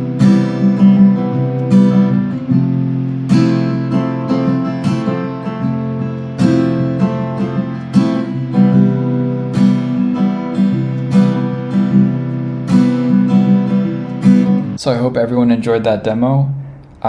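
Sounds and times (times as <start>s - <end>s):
guitar strumming chords: 0.0s - 14.8s.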